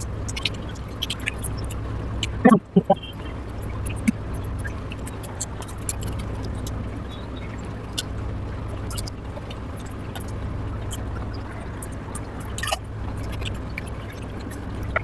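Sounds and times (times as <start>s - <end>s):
steady low hum: 0.0s - 15.0s
wet chewing and mouth sounds: 0.0s - 15.0s.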